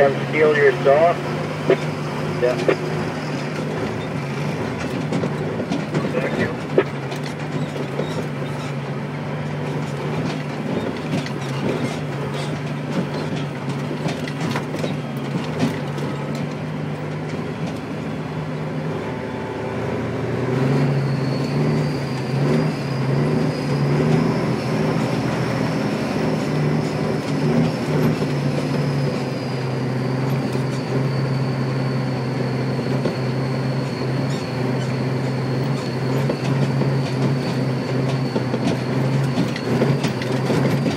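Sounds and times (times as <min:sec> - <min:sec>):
dump truck engine running: 0:00.0 - 0:40.9.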